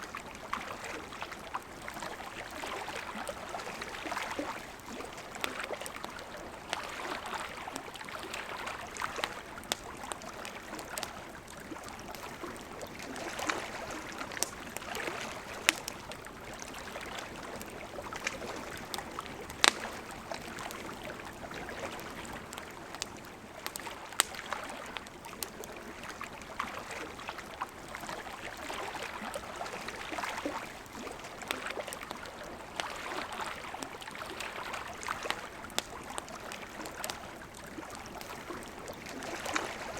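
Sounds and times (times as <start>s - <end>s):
river flowing: 0.0s - 39.9s
campfire crackling and popping: 0.1s - 39.9s.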